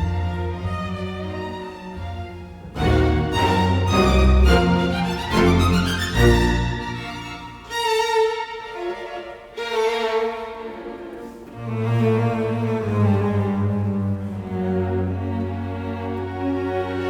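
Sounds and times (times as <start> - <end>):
deep cello notes: 0.0 - 7.8, 9.8 - 17.0
bowed strings music: 0.0 - 17.0.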